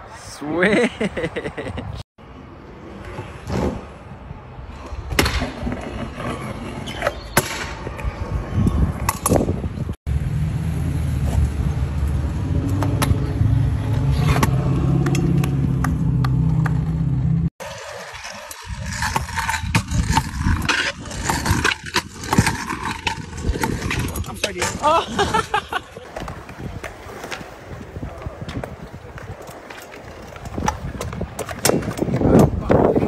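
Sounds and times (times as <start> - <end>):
scooter wheels rolling on concrete: 1.1 - 33.0.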